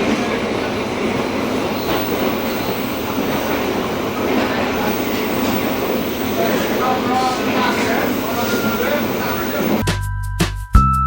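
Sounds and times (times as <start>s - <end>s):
train wheels rumbling on rail: 0.0s - 9.8s.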